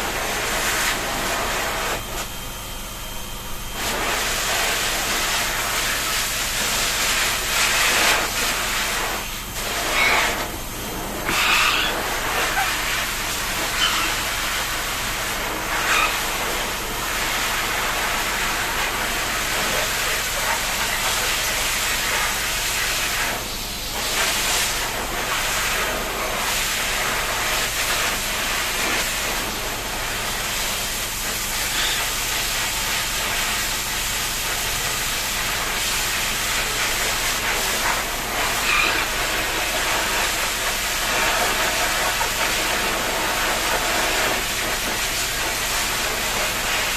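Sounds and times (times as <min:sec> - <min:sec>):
water spraying hiss: 0:03.8 - 0:46.9.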